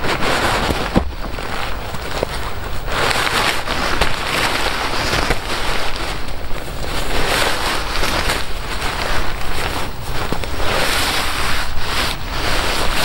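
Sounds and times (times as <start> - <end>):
nylon fabric rustling: 0.0 - 13.0.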